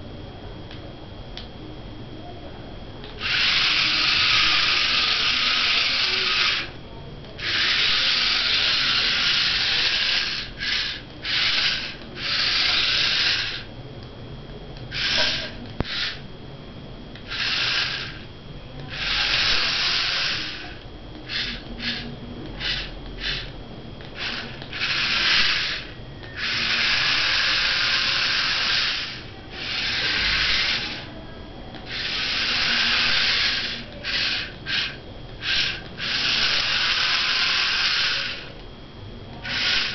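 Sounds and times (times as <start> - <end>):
electric motors whirring: 3.0 - 14.0, 14.7 - 39.9.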